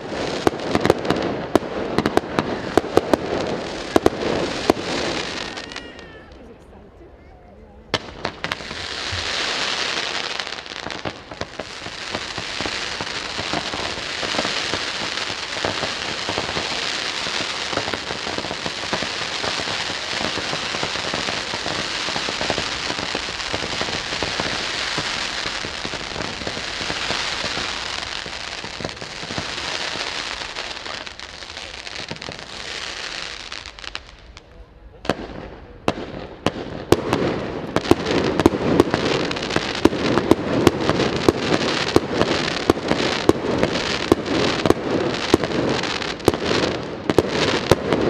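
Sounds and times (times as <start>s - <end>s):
firework fountains hissing crackle: 0.0s - 48.0s.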